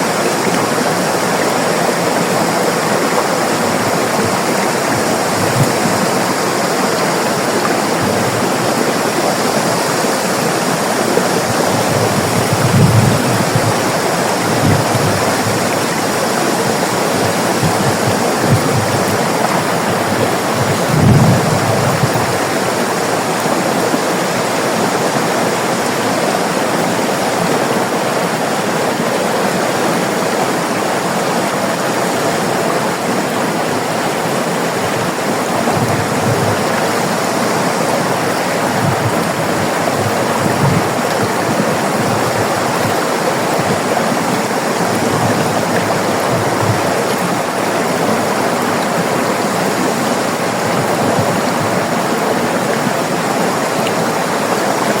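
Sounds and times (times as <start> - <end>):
low water gurgles: 0.0 - 55.0
river water flowing: 0.0 - 55.0.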